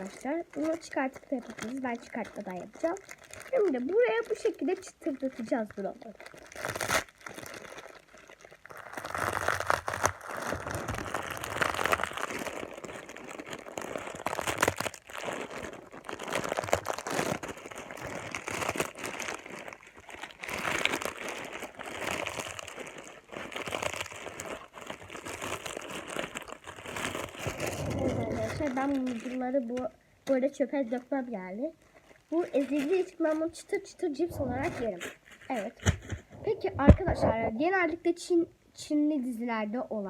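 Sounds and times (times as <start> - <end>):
dry noodles crunching: 0.0 - 29.8, 31.8 - 33.5, 34.4 - 36.5
plastic wrapper crinkling: 0.0 - 37.9.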